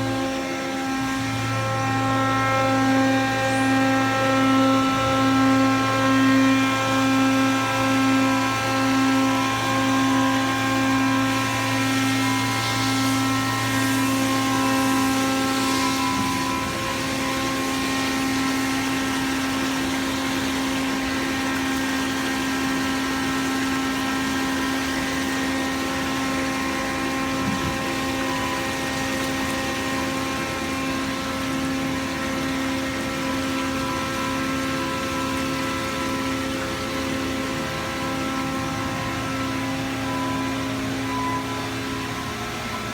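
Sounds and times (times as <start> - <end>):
lower machine hum: 0.0 - 42.9
milling machine humming: 0.0 - 42.9.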